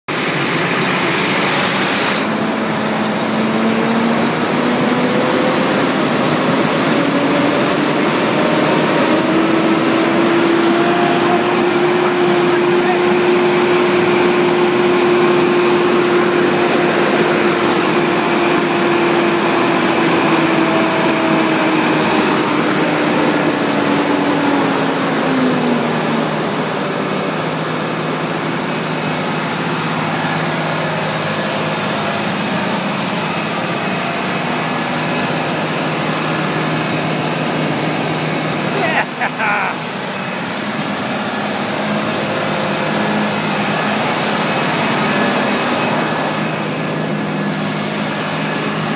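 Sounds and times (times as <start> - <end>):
diesel truck engine high revs: 0.1 - 48.9
engine whine: 0.1 - 48.9.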